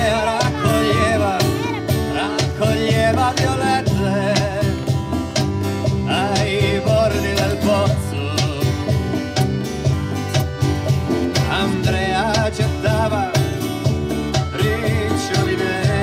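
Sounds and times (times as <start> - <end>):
man singing: 0.0 - 5.1, 5.8 - 9.1, 11.3 - 16.0
accordion: 0.0 - 16.0
conga drums: 0.0 - 16.0
electric bass: 0.0 - 16.0
strummed acoustic guitar: 0.0 - 16.0.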